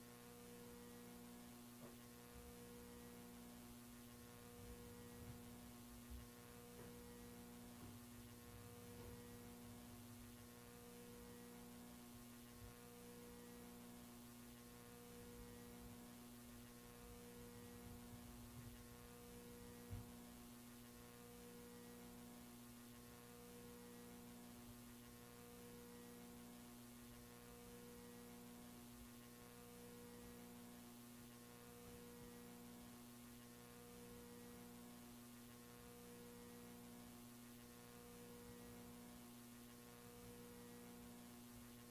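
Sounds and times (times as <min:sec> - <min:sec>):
faint electrical hum: 0:00.0 - 0:41.9
faint pulsing tone: 0:00.0 - 0:41.9.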